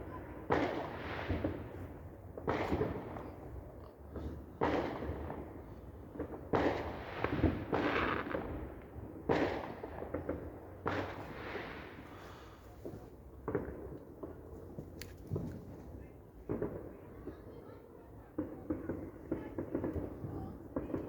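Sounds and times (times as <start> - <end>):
fireworks bangs: 0.0 - 3.4, 4.2 - 14.7, 15.3 - 21.0.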